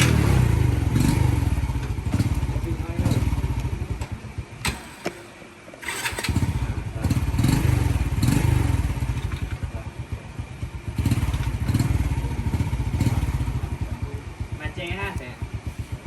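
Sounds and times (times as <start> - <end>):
small motorbike engine running: 0.0 - 5.1, 5.8 - 16.0.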